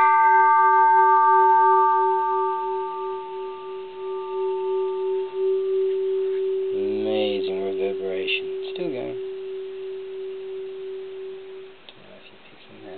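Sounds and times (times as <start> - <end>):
temple bell ringing: 0.0 - 11.8.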